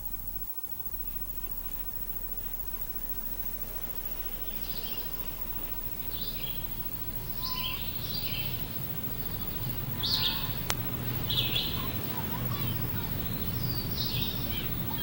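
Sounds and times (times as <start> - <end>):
bird chirping: 0.0 - 15.0
steady low hiss: 0.0 - 15.0.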